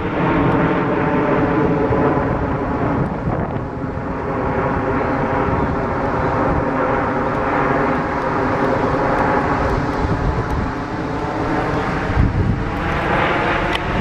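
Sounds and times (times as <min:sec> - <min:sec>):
jets droning overhead: 0:00.0 - 0:14.0.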